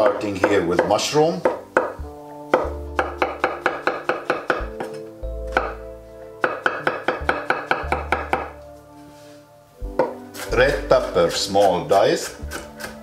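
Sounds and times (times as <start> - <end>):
knife chopping on wooden board: 0.0 - 5.8, 6.4 - 8.6, 9.9 - 13.0.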